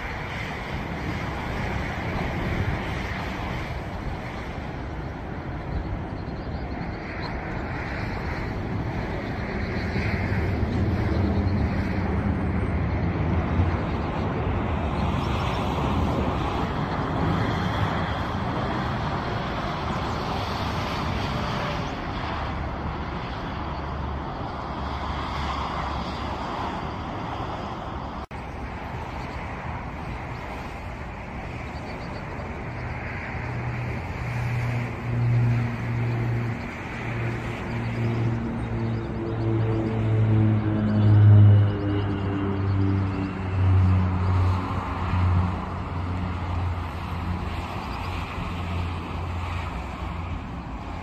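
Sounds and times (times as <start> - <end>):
jet engines rumbling: 0.0 - 51.0
turboprop propeller drone: 0.0 - 51.0.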